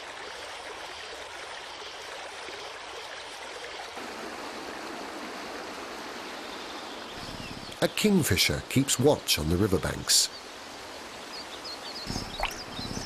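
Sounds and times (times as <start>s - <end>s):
flowing river water rushing: 0.0s - 9.4s, 10.4s - 13.0s.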